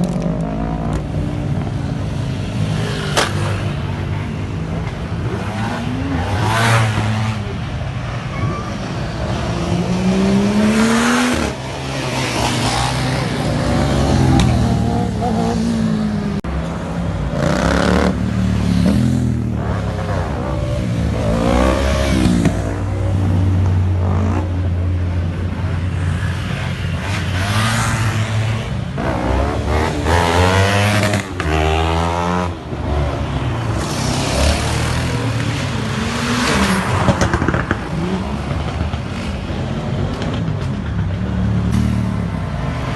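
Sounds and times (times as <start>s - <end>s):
car engines idling and revving: 0.0s - 42.9s.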